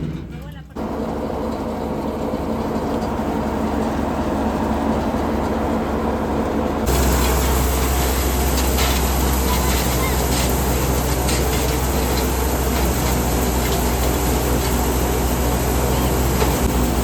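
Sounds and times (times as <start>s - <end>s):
wheat thresher running: 0.0s - 17.0s.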